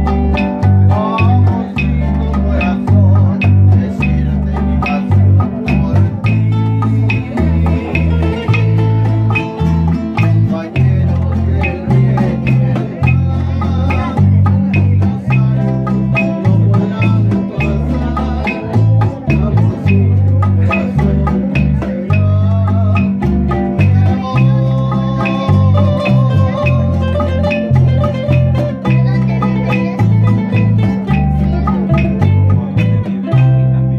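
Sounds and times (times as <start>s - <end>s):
bass line: 0.0s - 33.9s
guitars strumming: 0.0s - 33.9s.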